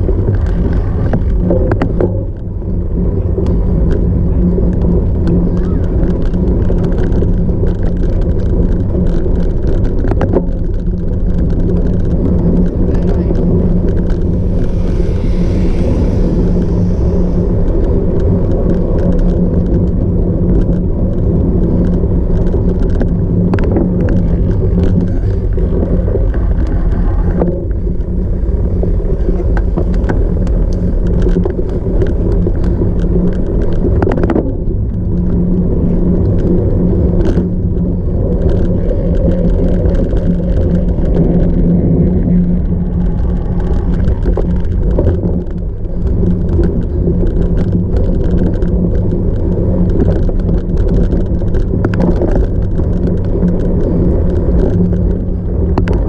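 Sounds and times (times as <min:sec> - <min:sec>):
bike clicks and rattles: 0:00.0 - 0:56.0
bike rumbling over rough ground: 0:00.0 - 0:56.0
low hum: 0:00.0 - 0:56.0.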